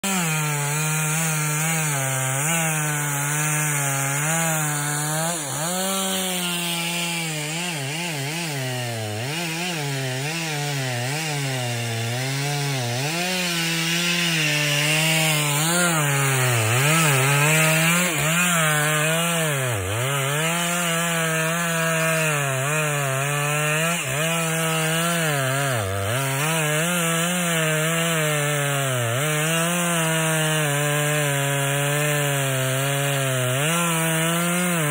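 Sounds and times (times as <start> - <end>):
chainsaw cutting into tree: 0.0 - 34.9.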